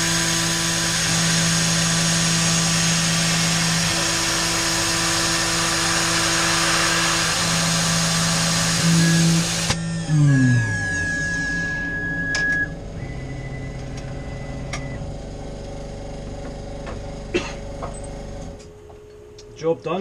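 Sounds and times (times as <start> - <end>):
axis motors whining: 0.0 - 17.0
mill spindle whine spinning down: 0.0 - 17.0.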